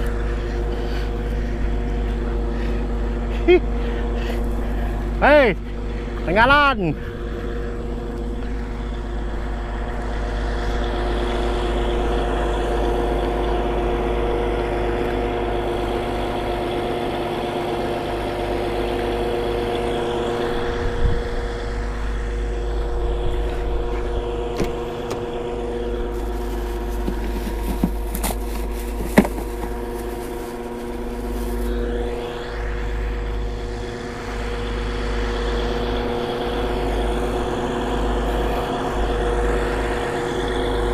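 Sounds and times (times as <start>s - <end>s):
dredging machine engine droning: 0.0s - 40.9s.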